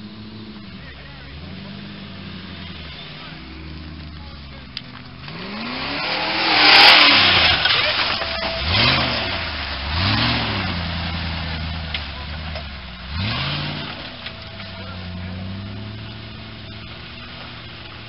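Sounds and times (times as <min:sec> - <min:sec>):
buggy engine revving hard: 0:00.0 - 0:18.0.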